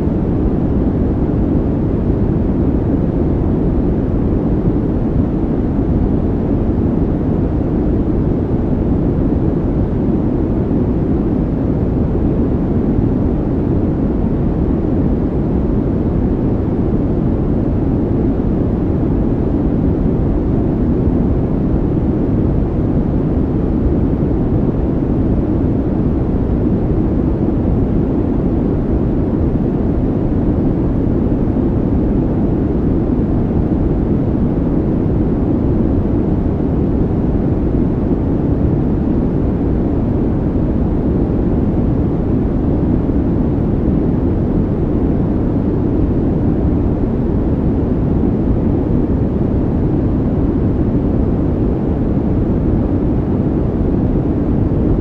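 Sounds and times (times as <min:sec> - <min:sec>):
low rumbling noise: 0:00.0 - 0:55.0.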